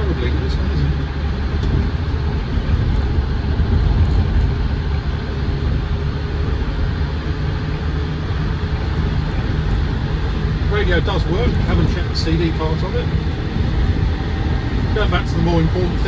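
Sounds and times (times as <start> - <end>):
diesel engine running: 0.0 - 16.0
road noise: 0.0 - 16.0.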